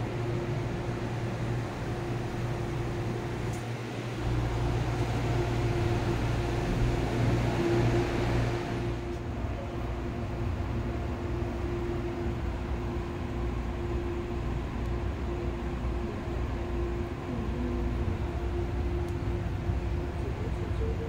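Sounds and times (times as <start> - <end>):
train interior rumble and hum: 0.0 - 21.0.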